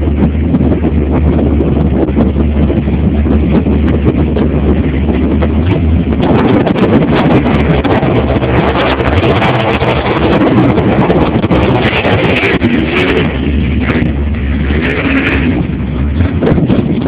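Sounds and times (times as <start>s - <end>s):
boat engine roaring: 0.0s - 17.0s
wind buffeting microphone: 0.0s - 17.0s.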